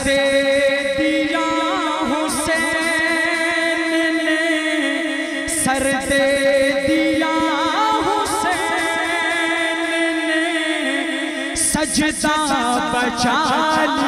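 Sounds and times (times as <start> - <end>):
man singing a cappella: 0.0 - 14.0.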